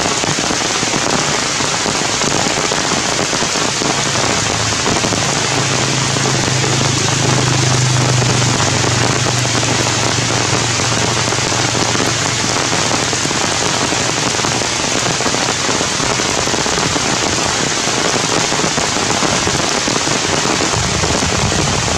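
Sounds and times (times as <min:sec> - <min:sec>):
heavy rain on leaves: 0:00.0 - 0:21.9.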